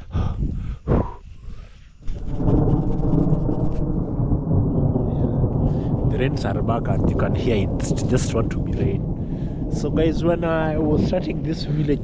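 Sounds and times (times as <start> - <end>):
thunder rumbling: 2.0 - 12.0.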